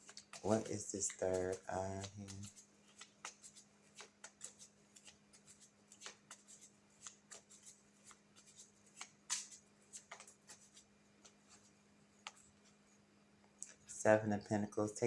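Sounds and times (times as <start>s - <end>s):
cards being shuffled: 0.0s - 12.4s.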